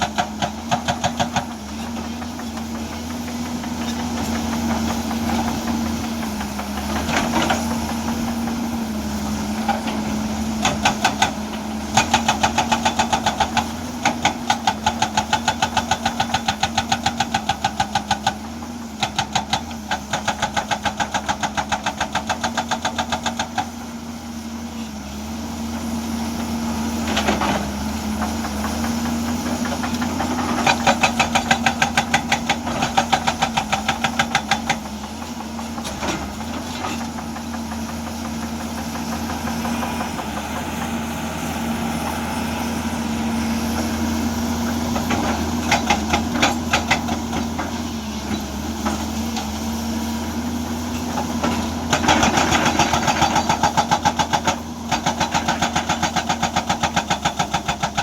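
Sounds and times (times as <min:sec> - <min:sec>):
hydraulic breaker hammering rock: 0:00.0 - 0:23.8, 0:27.0 - 0:41.1, 0:43.7 - 0:49.7, 0:51.0 - 0:58.0
diesel engine running: 0:00.0 - 0:58.0.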